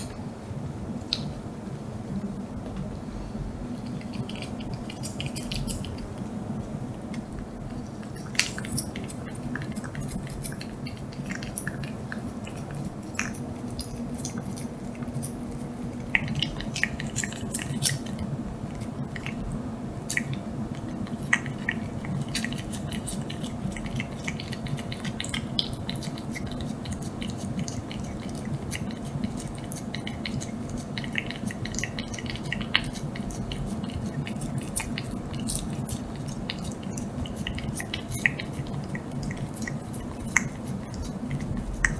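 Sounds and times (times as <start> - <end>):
steady low hum: 0.0 - 41.9
cat lapping and smacking: 3.6 - 6.3, 7.0 - 41.9.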